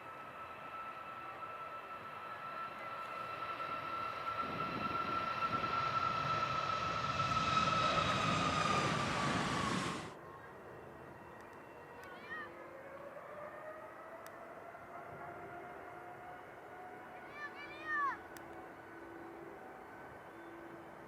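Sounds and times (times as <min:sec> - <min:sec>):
jet engines high whine: 0:00.0 - 0:21.0.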